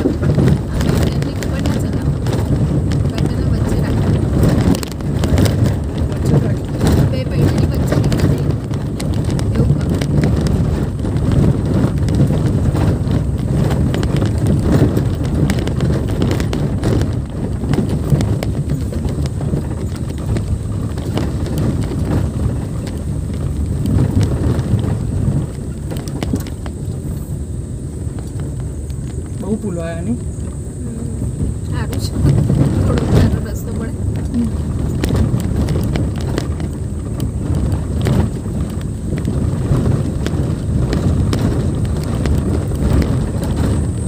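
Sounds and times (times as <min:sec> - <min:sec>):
car engine and tyres rumbling: 0:00.0 - 0:44.0
car knocking and rattling: 0:00.0 - 0:44.0.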